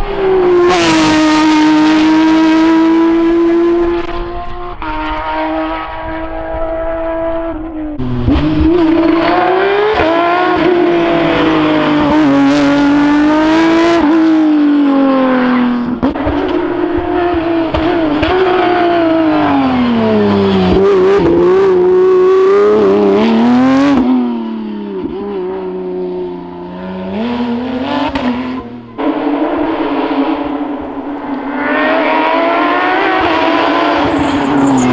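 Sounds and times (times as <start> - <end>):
rally car engine accelerating: 0.0 - 34.9.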